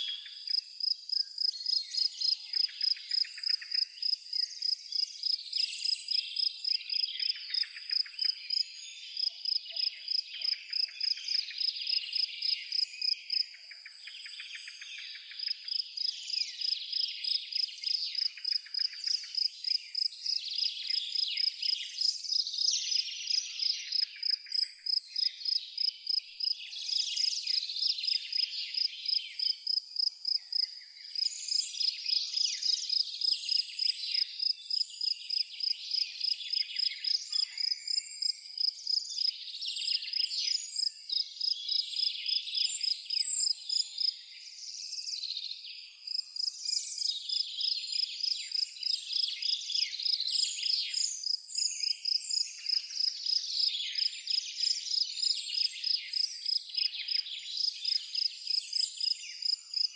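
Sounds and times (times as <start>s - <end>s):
cricket chirping: 0.0s - 45.4s, 46.0s - 59.9s
songbirds chirping and twittering: 0.0s - 59.9s.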